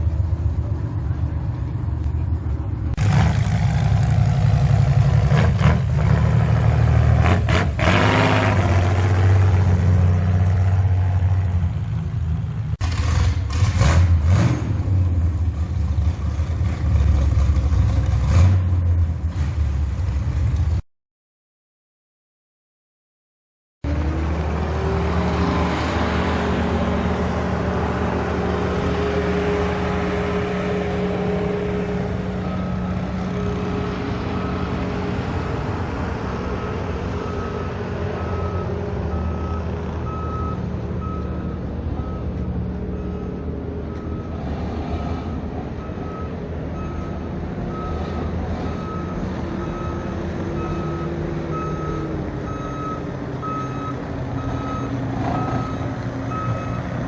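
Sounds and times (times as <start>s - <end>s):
heavy vehicle engine running: 0.0s - 20.8s, 23.8s - 57.0s.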